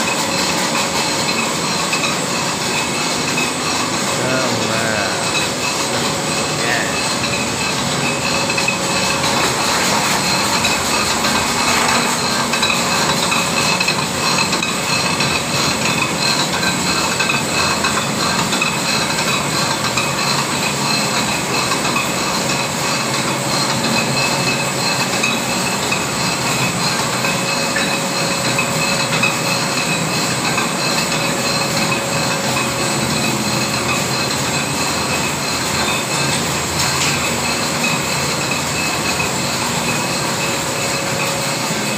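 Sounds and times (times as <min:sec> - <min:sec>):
extrusion machine whirring: 0:00.0 - 0:41.9.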